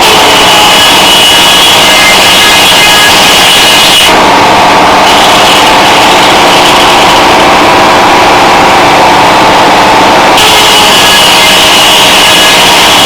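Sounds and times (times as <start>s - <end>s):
diesel engine running: 0.0s - 13.0s
saw whining cutting wood: 0.0s - 13.0s.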